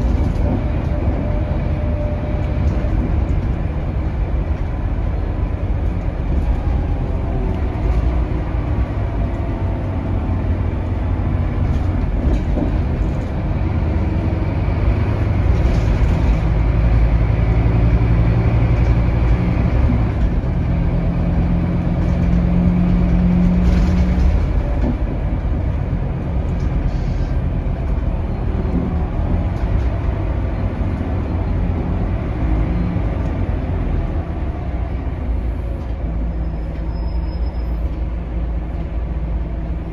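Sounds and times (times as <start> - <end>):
bus engine rumbling: 0.0 - 39.9
road noise: 0.0 - 39.9.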